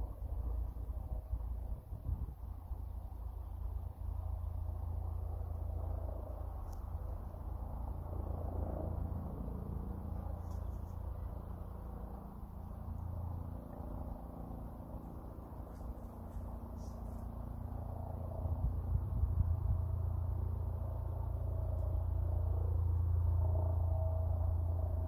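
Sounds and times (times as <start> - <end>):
distant helicopter rumble: 0.0 - 25.0.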